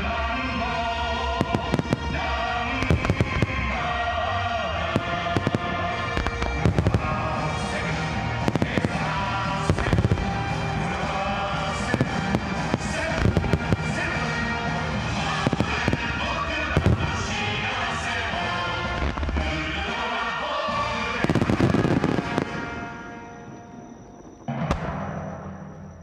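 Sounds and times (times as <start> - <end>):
music: 0.0 - 26.0.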